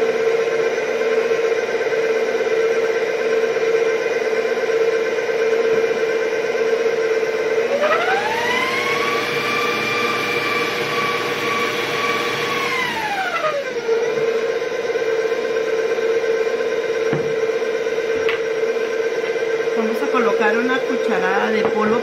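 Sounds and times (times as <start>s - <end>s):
stand mixer motor whine: 0.0s - 22.0s.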